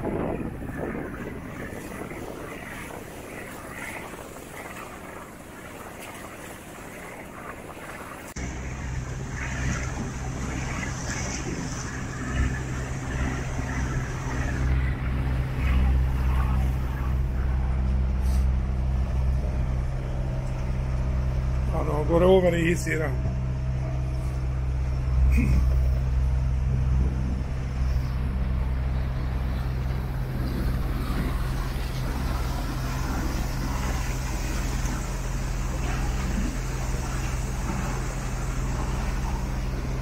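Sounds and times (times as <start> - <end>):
engine droning hum: 0.0 - 40.0
water noise: 0.0 - 40.0
wind: 0.0 - 40.0.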